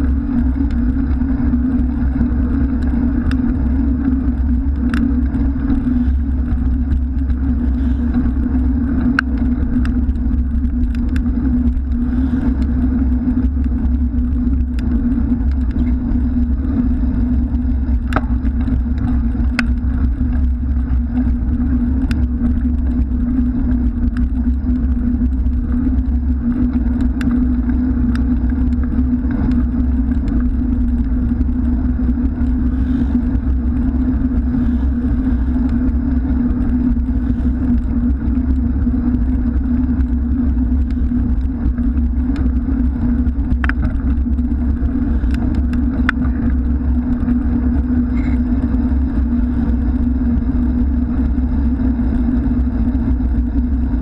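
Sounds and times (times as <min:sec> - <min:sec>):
bicycle rattle clicks: 0:00.0 - 0:54.0
bicycle road vibration: 0:00.0 - 0:54.0
motor traffic: 0:00.0 - 0:54.0
wind rumble: 0:00.0 - 0:54.0.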